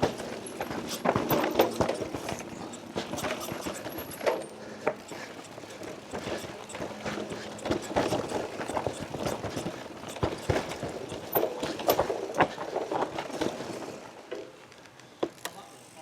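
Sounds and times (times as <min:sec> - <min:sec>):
bike rattling over rocks: 0:00.0 - 0:14.6.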